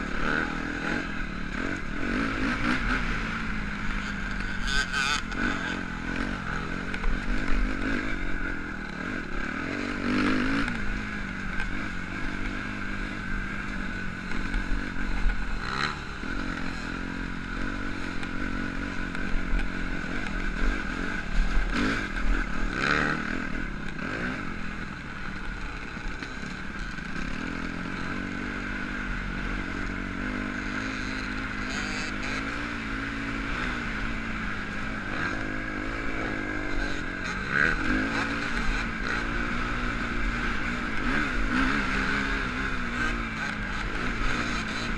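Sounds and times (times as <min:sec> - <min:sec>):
motocross bike engine running: 0:00.0 - 0:44.9.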